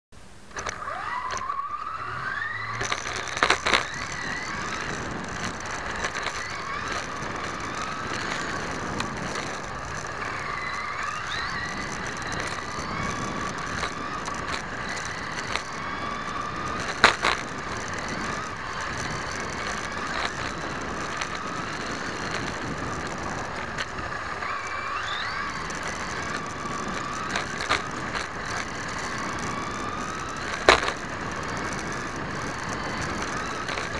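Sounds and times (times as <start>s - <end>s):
tyre and road noise: 0.2s - 33.9s
electric motor and gears whining: 0.3s - 33.9s
sharp knocks over bumps: 2.4s - 33.9s.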